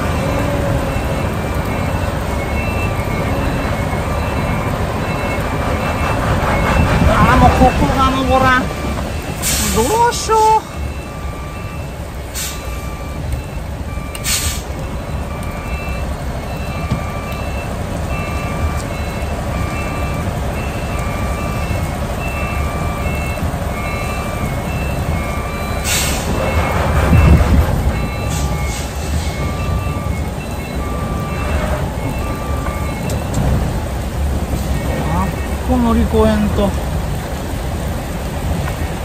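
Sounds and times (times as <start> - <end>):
diesel engine running: 0.0 - 39.0
heavy rain: 0.0 - 39.0
truck reversing alarm beeps: 0.0 - 39.0.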